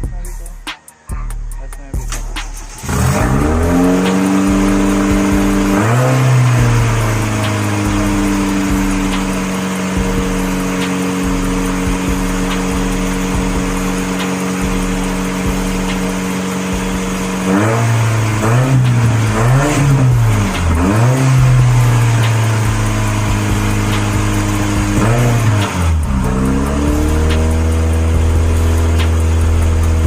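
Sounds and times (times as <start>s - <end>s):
car engine revving and idling: 0.0s - 30.0s.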